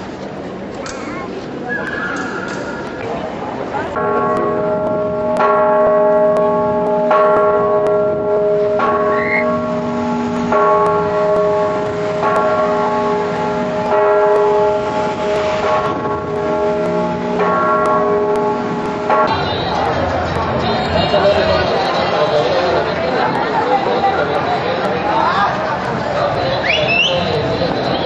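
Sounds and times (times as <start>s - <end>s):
large church bell tolling: 3.6s - 26.6s.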